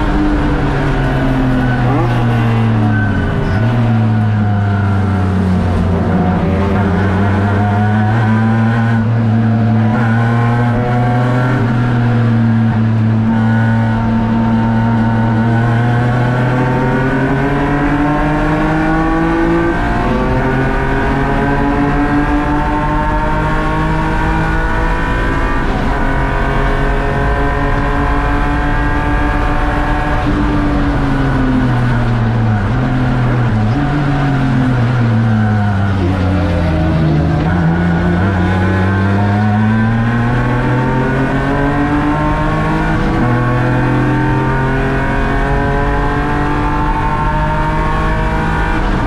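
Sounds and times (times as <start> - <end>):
race car engine revving: 0.0 - 49.0.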